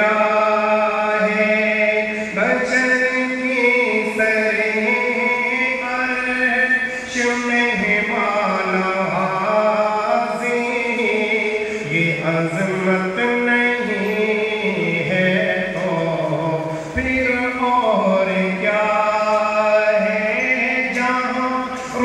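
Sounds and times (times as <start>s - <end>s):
person chanting devotional poem: 0.0s - 22.0s.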